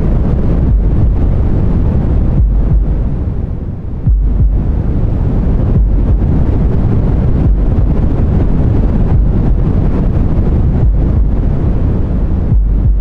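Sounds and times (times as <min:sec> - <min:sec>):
deep white noise hiss: 0:00.0 - 0:13.0.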